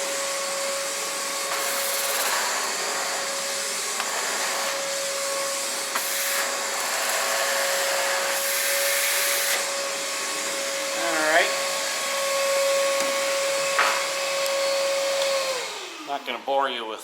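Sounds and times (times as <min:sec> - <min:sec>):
wet dry vacuum running: 0:00.0 - 0:16.7.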